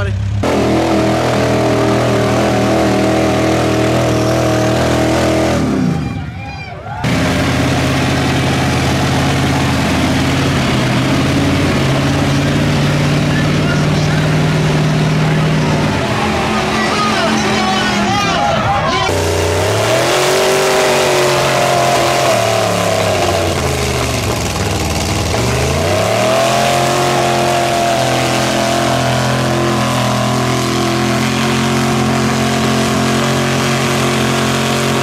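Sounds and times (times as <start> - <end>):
truck engines revving high: 0.0 - 35.0.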